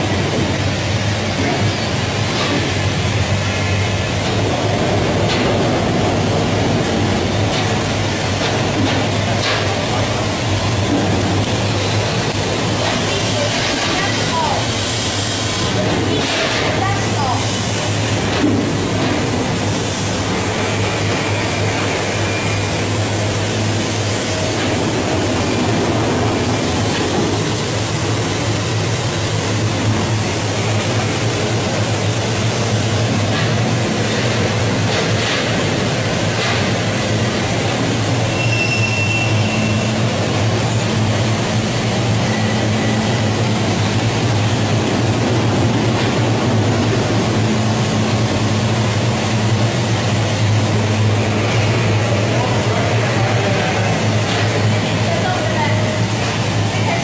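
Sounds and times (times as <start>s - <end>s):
conveyor machinery running: 0.0s - 57.0s.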